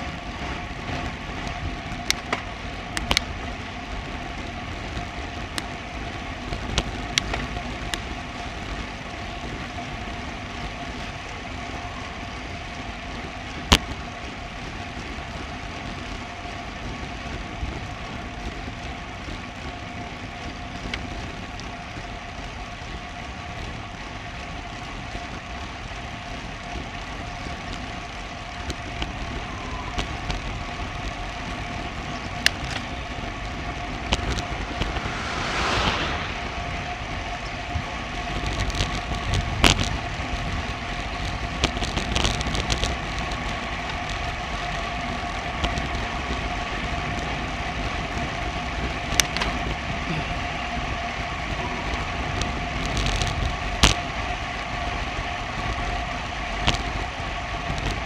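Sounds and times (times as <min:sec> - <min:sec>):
bicycle riding rush: 0:00.0 - 0:58.0.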